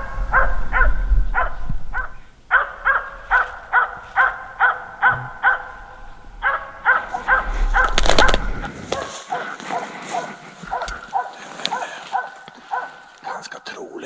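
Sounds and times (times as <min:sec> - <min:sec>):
dog barking: 0:00.0 - 0:13.6.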